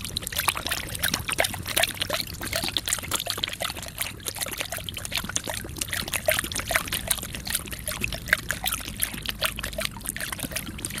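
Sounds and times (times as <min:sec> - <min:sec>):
puppy lapping water: 0:00.0 - 0:11.0.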